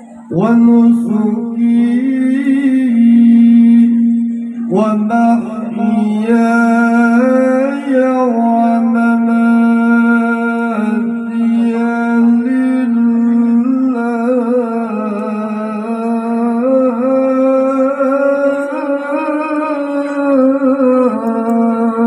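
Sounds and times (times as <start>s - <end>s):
man reciting melodically into microphone: 0.0s - 22.0s.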